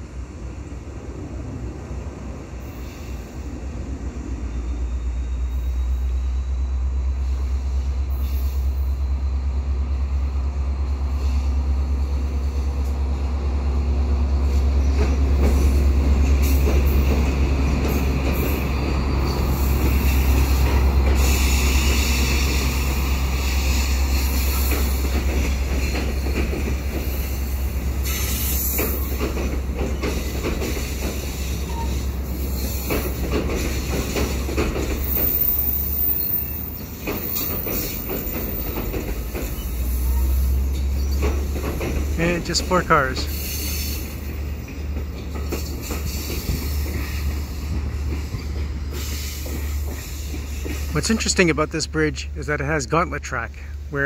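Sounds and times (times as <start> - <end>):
diesel locomotive rumble: 0.0 - 54.0
train wheels clicking over rail joints: 9.8 - 53.9.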